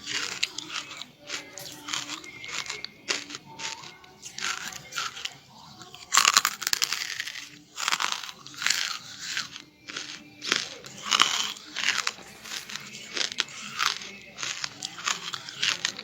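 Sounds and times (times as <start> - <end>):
charcoal crunching while chewed: 0.0 - 16.0.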